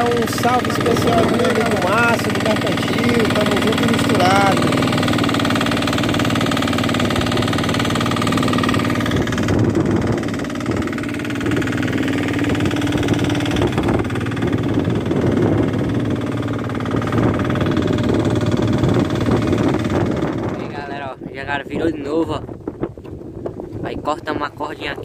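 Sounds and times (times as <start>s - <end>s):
boat engine running: 0.0s - 25.0s
water noise: 0.0s - 25.0s
wind: 0.0s - 25.0s.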